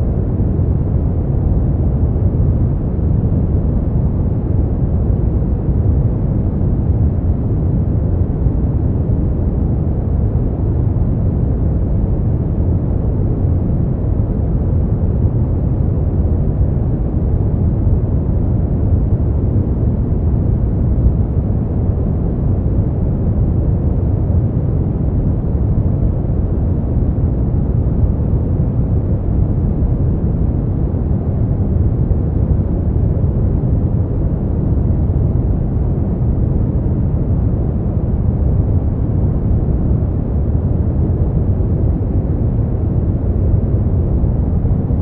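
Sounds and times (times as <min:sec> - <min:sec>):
brown noise rumbling hiss: 0:00.0 - 0:45.0.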